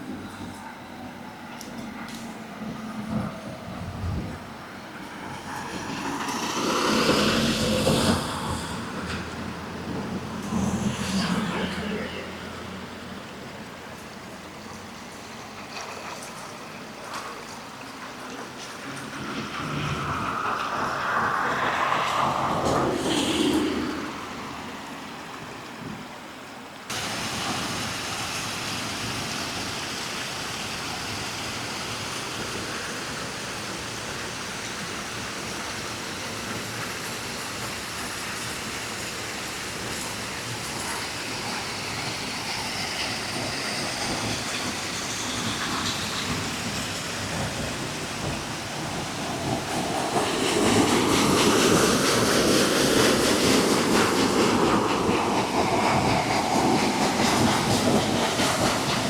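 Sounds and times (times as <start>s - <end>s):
train passing with wheel clatter: 0.0s - 59.0s
rushing flowing water: 2.4s - 59.0s.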